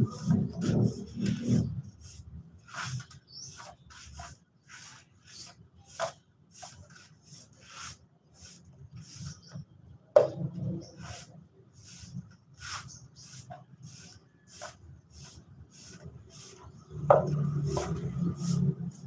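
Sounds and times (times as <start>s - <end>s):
broom sweeping pavement: 0.0s - 9.6s, 10.2s - 19.0s.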